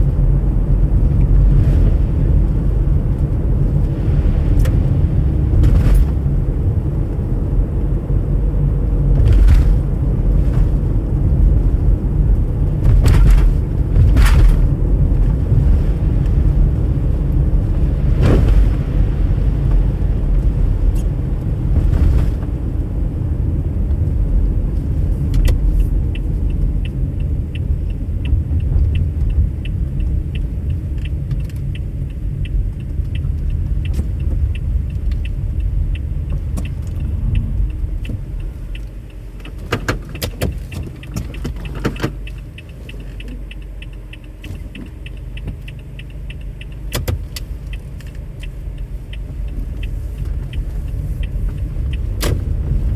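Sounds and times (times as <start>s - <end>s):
car road and engine rumble: 0.0s - 52.9s
turn signal ticking: 0.0s - 52.9s.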